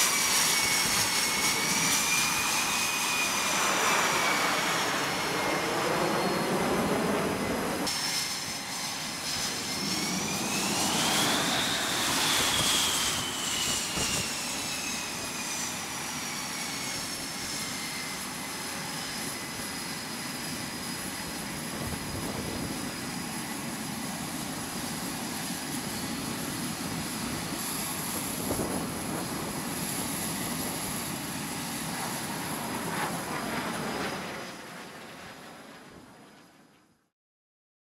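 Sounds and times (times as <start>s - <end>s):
jet engines running: 0.0s - 36.7s
high turbine whine: 0.0s - 36.9s.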